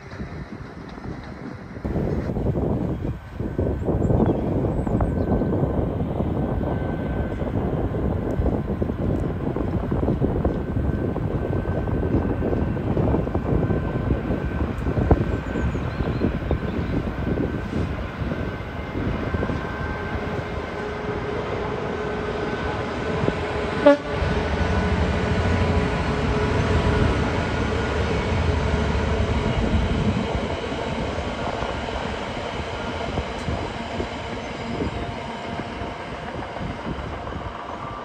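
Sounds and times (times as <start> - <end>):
diesel locomotive engine drone: 0.0 - 38.0
freight train rumble: 0.0 - 38.0.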